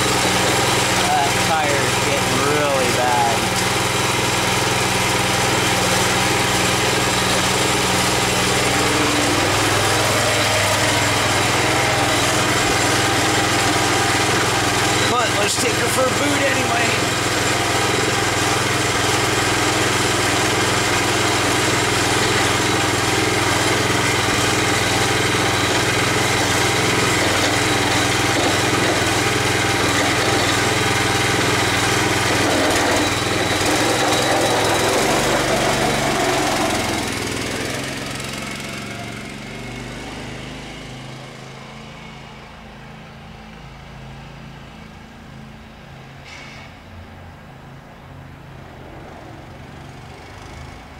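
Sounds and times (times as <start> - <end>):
riding mower engine running: 0.0 - 50.9.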